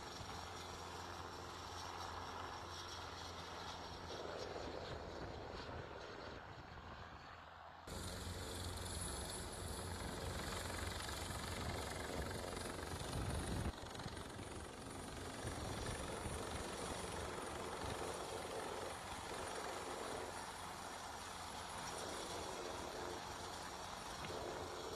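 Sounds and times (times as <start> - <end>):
helicopter hovering: 0.0 - 24.9.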